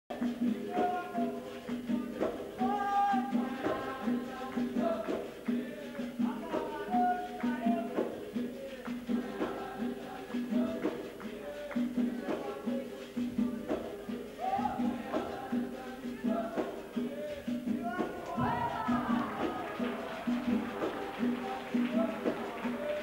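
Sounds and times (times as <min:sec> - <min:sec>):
person singing: 0:00.3 - 0:23.0.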